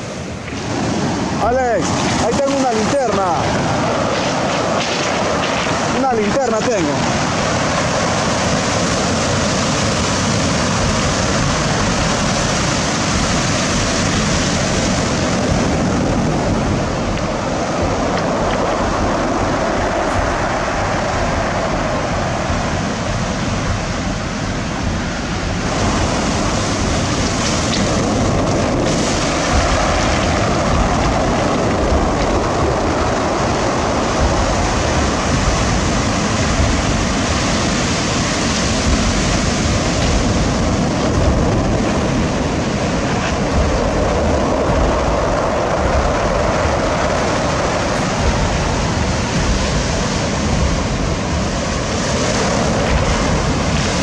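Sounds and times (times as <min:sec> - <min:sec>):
sea waves breaking: 0:00.0 - 0:54.0
wind buffeting microphone: 0:00.0 - 0:54.0.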